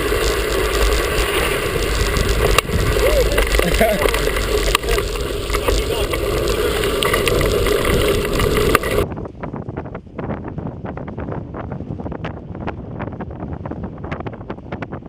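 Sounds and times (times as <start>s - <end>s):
bike rattling over rough trail: 0.0s - 15.0s
wind buffeting microphone: 0.0s - 15.0s.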